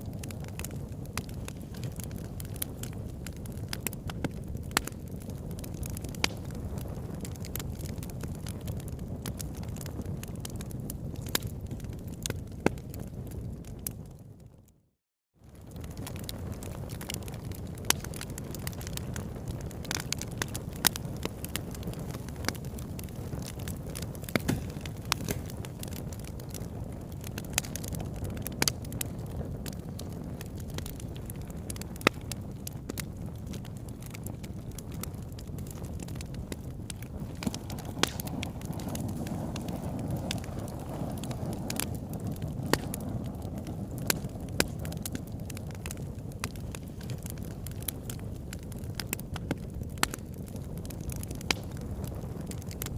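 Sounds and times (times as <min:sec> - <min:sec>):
wood fire crackling: 0:00.0 - 0:14.6, 0:15.4 - 0:52.9.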